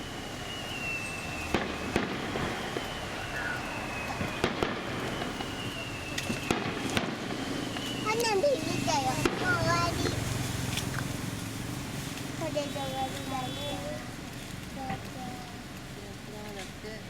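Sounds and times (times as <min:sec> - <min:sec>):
fireworks shells bursting: 0:00.0 - 0:13.8
fireworks crackling: 0:00.0 - 0:17.0.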